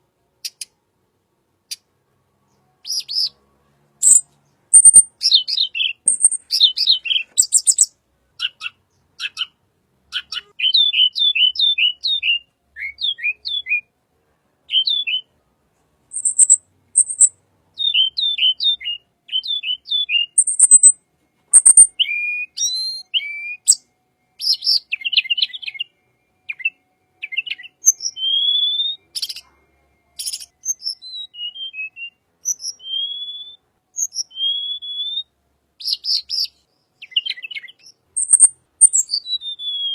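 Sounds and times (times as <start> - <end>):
songbird singing: 0.3 - 0.8, 1.6 - 39.9.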